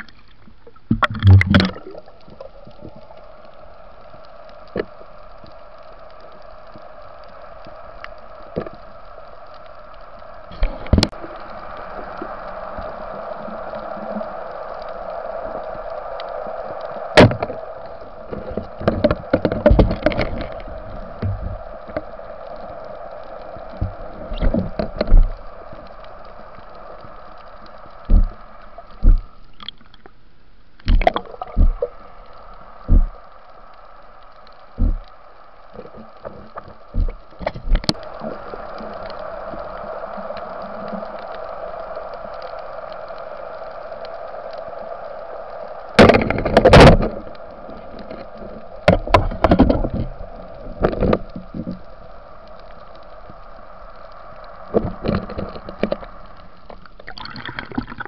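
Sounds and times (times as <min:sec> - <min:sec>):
steady underwater hum: 0:00.0 - 0:58.0
bursts of noise: 0:00.8 - 0:29.6, 0:30.2 - 0:58.0.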